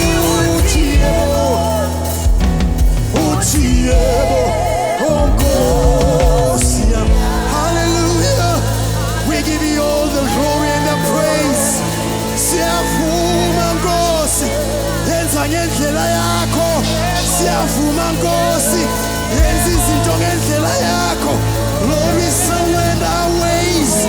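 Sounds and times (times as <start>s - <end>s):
band playing gospel music: 0.0s - 24.0s
person singing with vibrato: 0.0s - 24.0s.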